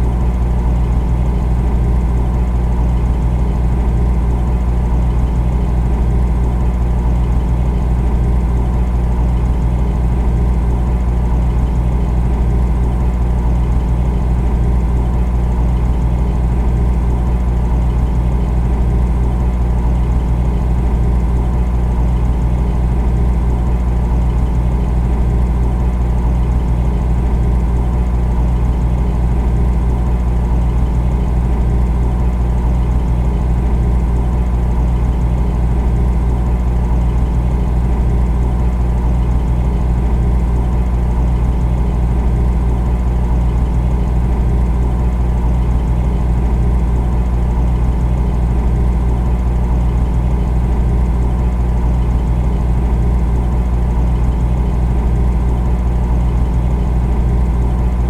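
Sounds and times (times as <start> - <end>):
refrigerator humming: 0.0 - 58.0.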